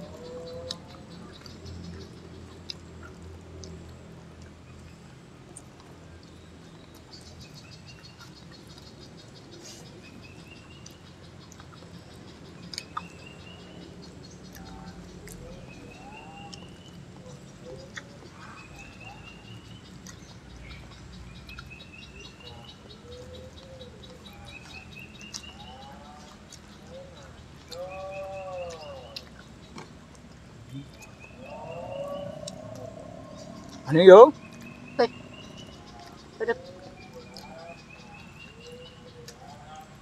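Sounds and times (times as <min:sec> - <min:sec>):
lower arching calls: 0:00.0 - 0:03.8, 0:07.0 - 0:40.0.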